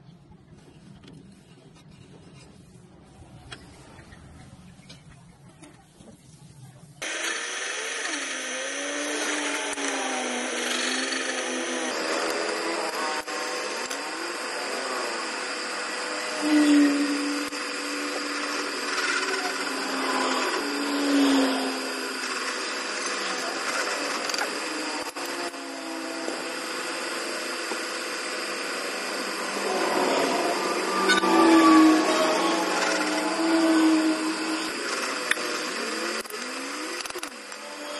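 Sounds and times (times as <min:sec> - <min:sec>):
drill press drilling steel: 0:07.0 - 0:37.9
drill bit squealing: 0:07.1 - 0:37.9.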